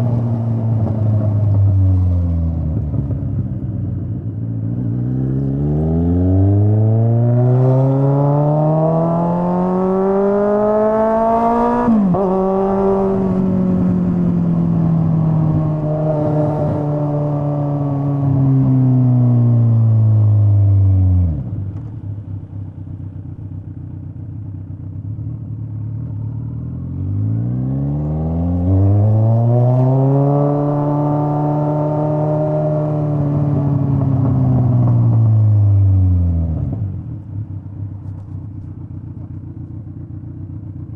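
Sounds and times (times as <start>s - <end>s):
motorcycle engine revving: 0.0s - 21.9s, 22.7s - 40.9s.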